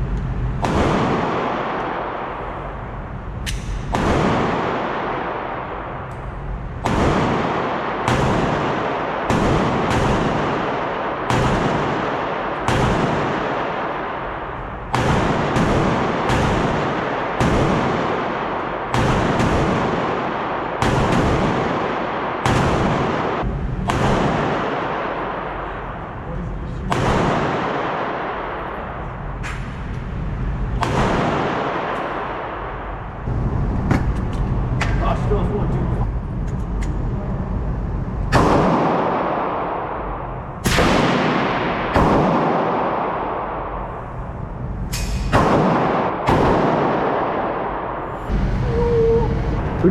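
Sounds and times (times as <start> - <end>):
gunshots with echo: 0.4 - 35.4, 38.3 - 49.9.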